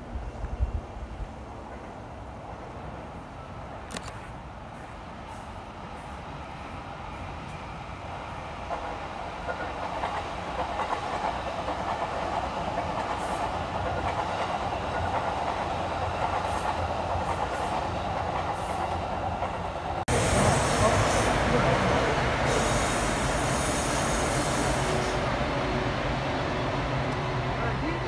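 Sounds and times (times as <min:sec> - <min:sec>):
train wheels rumbling on rails: 0:03.9 - 0:28.0.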